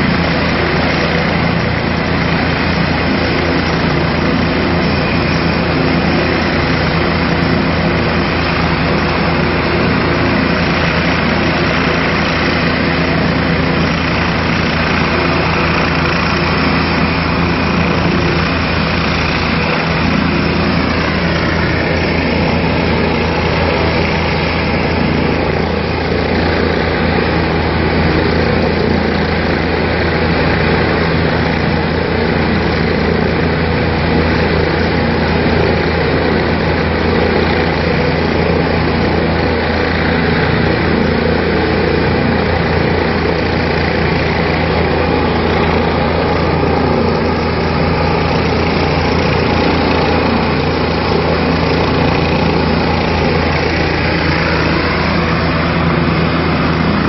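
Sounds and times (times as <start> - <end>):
helicopter turbine whine and rotor hum: 0.0 - 57.0.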